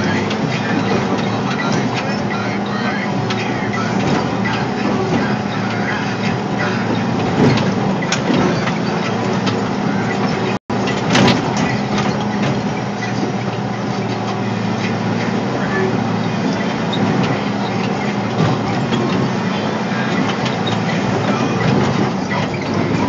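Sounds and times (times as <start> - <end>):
diesel engine under load: 0.0 - 23.0
machine knocks and rattles: 0.0 - 23.0.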